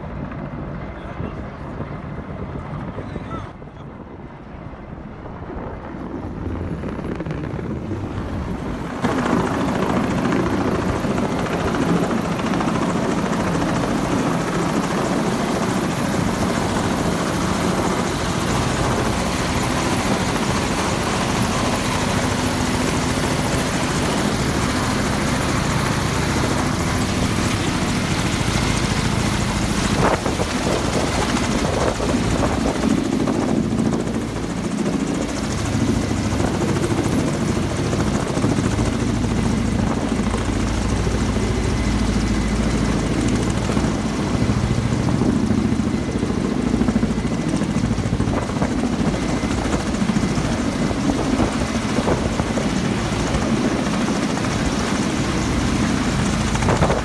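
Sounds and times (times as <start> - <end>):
helicopter hovering: 0.0 - 57.0.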